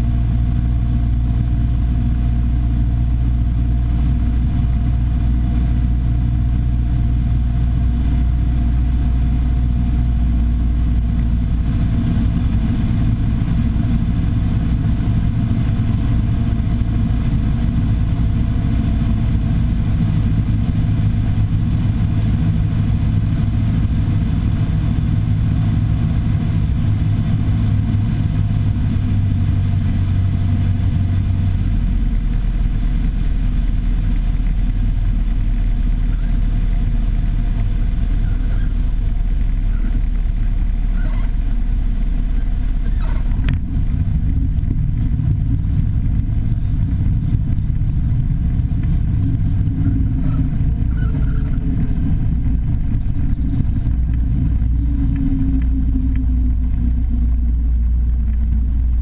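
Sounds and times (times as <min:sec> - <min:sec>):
airplane engine and propeller drone: 0:00.0 - 0:59.0.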